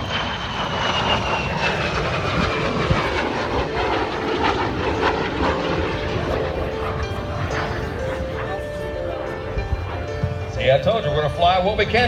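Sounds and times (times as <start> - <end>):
jet passing by: 0.0 - 12.0.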